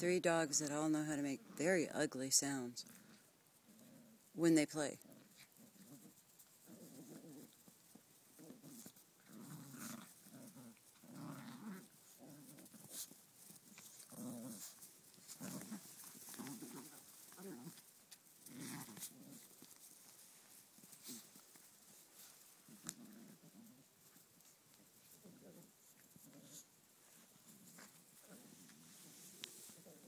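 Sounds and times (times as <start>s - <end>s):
dogs growling in play: 2.8s - 4.4s, 5.0s - 30.0s.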